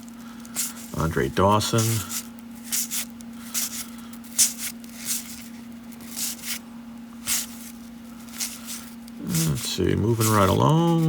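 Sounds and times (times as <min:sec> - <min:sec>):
cards swishing against cards: 0:00.0 - 0:01.0, 0:01.6 - 0:06.6, 0:07.2 - 0:11.0.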